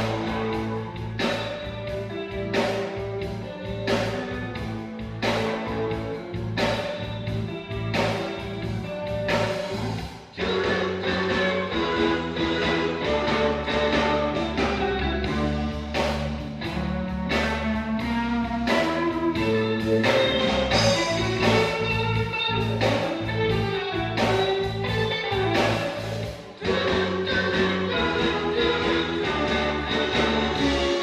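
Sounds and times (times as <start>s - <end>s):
instrumental music with guitar: 0.0s - 31.0s.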